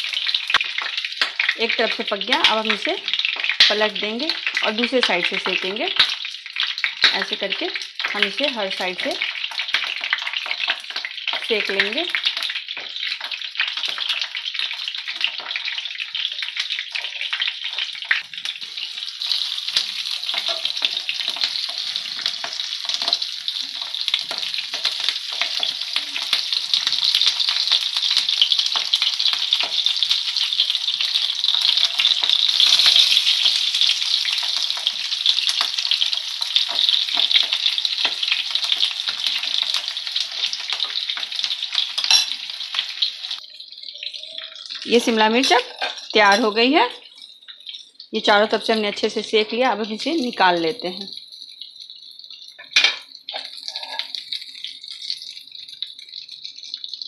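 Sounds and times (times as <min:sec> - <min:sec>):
peppers sizzling in hot oil: 0:00.0 - 0:57.0.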